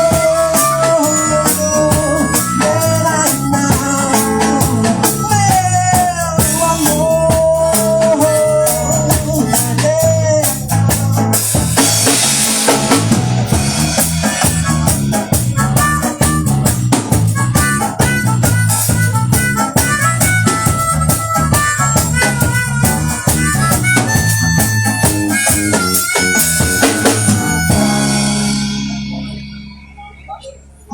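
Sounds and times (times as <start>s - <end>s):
acoustic guitar: 0.0s - 30.9s
bass guitar: 0.0s - 30.9s
drum kit: 0.0s - 30.9s
harmonica: 0.0s - 30.9s.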